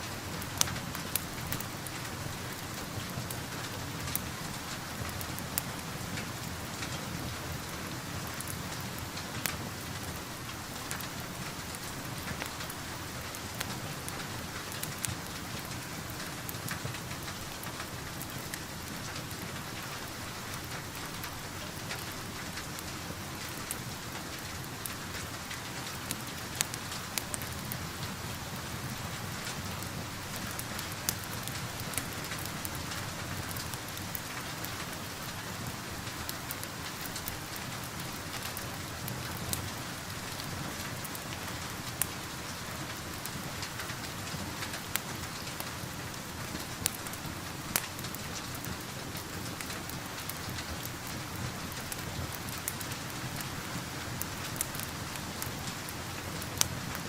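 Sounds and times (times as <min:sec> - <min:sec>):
steady rain falling: 0:00.0 - 0:57.0
wood fire crackling and popping: 0:00.0 - 0:57.0.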